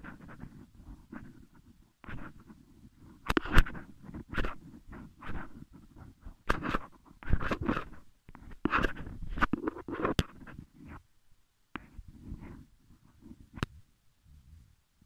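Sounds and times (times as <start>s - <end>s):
hand rubbing on page: 0.0s - 11.0s, 11.8s - 13.6s
pen scratching on paper: 0.0s - 11.1s, 11.8s - 13.6s.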